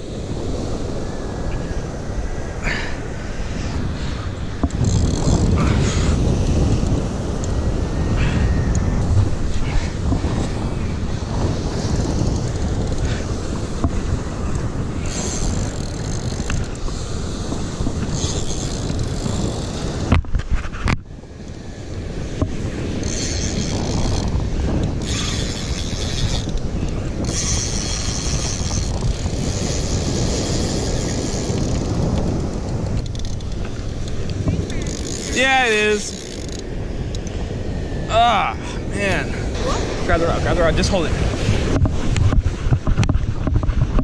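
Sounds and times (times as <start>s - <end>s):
surf washing on beach: 0.0s - 44.0s
wind buffeting microphone: 0.0s - 44.0s.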